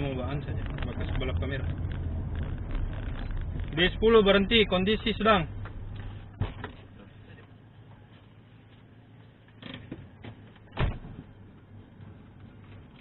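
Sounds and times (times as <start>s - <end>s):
car idling hum: 0.0s - 13.0s.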